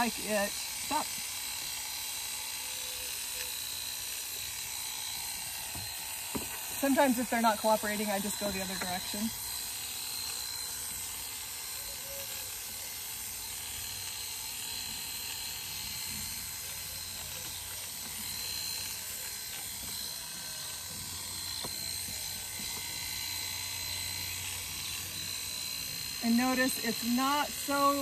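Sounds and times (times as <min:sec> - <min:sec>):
electric clippers humming: 0:00.0 - 0:28.0.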